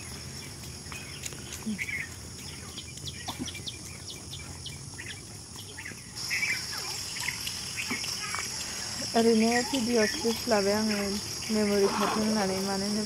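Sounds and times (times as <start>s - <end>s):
birds chirping: 0.0s - 13.0s
high insect drone: 0.0s - 13.0s.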